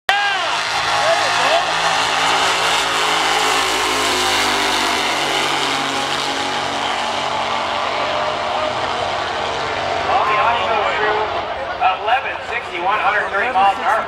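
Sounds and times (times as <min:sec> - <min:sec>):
car engines running hard: 0:00.1 - 0:14.0.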